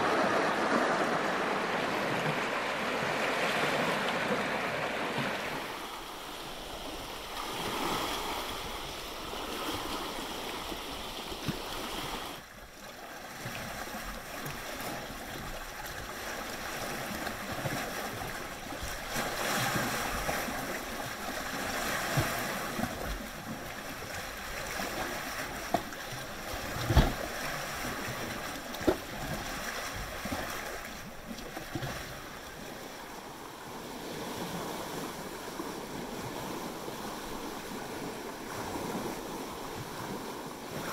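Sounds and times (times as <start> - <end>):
waves lapping against rock: 0.0 - 40.9.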